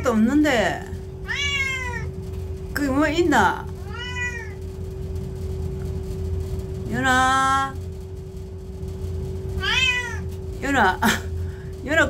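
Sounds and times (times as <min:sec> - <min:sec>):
gas boiler humming: 0:00.0 - 0:12.0.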